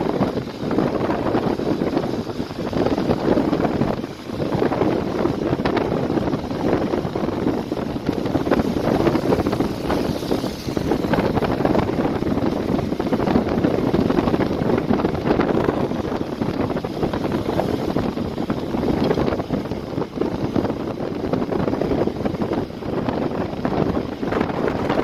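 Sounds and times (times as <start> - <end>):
car road noise: 0.0 - 25.0
wind buffeting microphone: 0.0 - 25.0.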